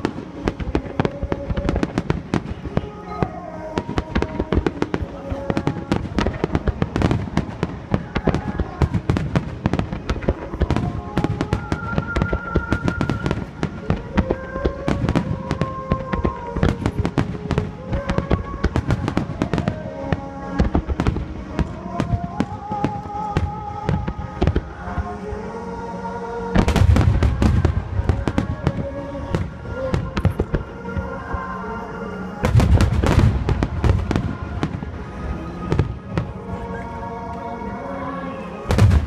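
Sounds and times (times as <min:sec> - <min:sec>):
fireworks bangs and crackles: 0:00.0 - 0:25.2, 0:26.5 - 0:31.5, 0:32.4 - 0:36.6, 0:38.6 - 0:39.0
music playing: 0:00.0 - 0:39.0.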